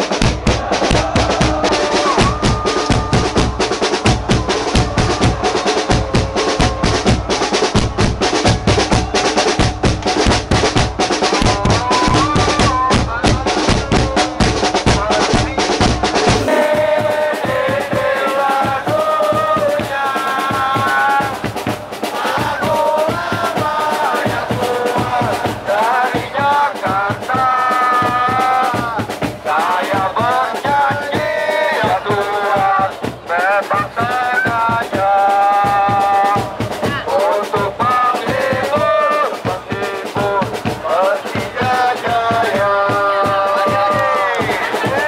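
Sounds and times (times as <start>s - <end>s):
bass drums beating: 0.0s - 45.0s
crowd chanting: 0.0s - 45.0s.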